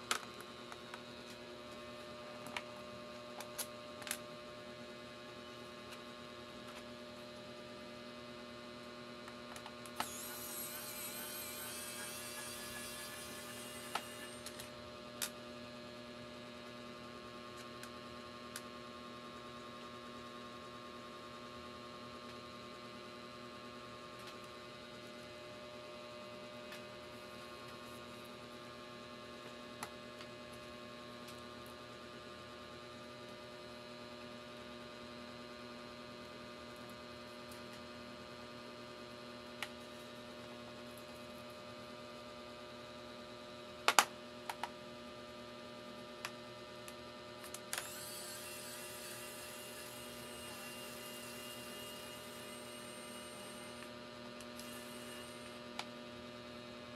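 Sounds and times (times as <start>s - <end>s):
electrical mains hum: 0.0s - 56.9s.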